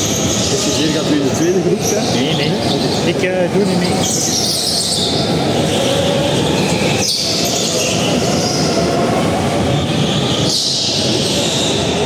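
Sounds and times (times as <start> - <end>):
go-karts running: 0.0 - 12.0.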